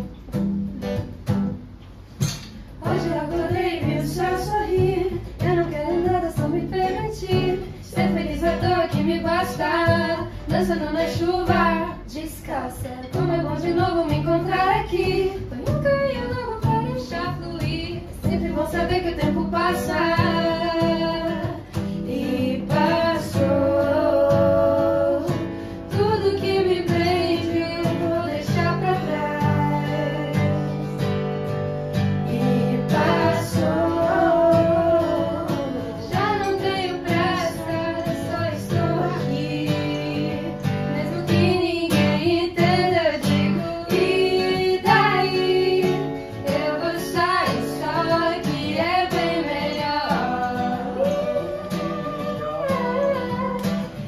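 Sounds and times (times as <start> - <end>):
acoustic guitar: 0.0 - 54.0
women singing pop song: 2.2 - 31.2, 31.9 - 54.0.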